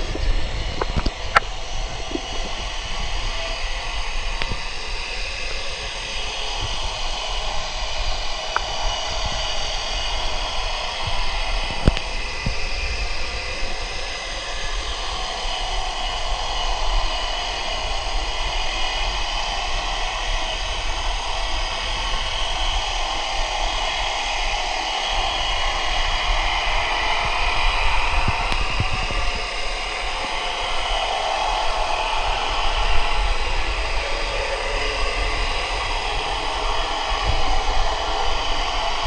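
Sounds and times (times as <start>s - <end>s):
droning hissing underwater noise: 0.0s - 39.0s.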